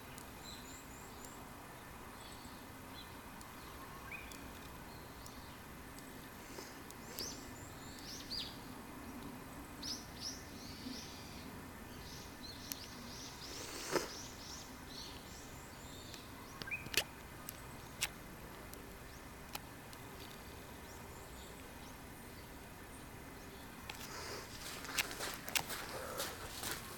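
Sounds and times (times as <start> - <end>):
small birds chirping: 0.0 - 26.9
steady outdoor background: 0.0 - 26.9.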